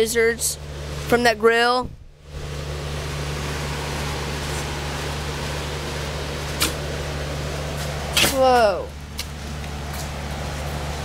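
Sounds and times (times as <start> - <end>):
fan machine whirring: 0.0 - 11.0.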